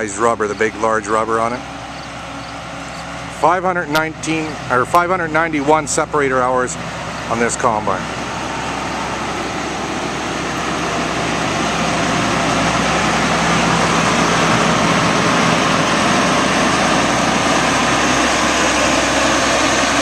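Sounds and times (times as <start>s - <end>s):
combine engine running: 0.0s - 20.0s.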